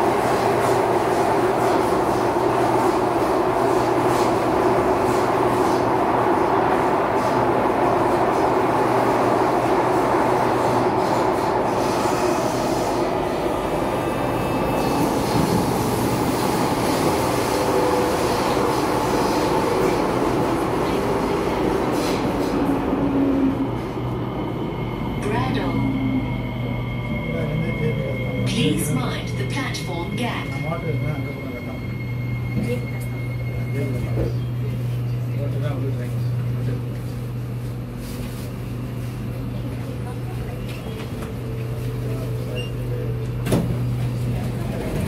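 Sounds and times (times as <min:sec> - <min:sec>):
train wheels rumbling on rail: 0:00.0 - 0:26.7, 0:27.4 - 0:45.0.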